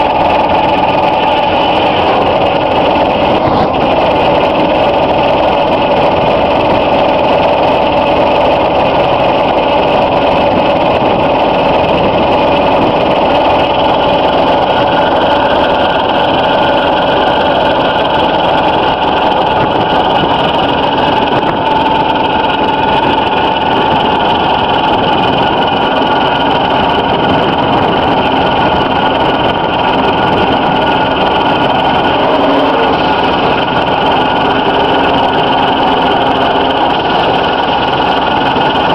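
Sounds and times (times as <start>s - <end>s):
spinner discs humming and whining: 0.0s - 38.9s.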